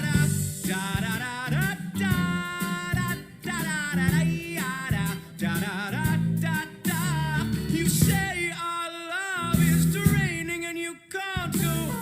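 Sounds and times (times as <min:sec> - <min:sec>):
band accompaniment: 0:00.0 - 0:08.4, 0:09.5 - 0:10.5, 0:11.4 - 0:12.0
person singing da da da: 0:00.0 - 0:12.0.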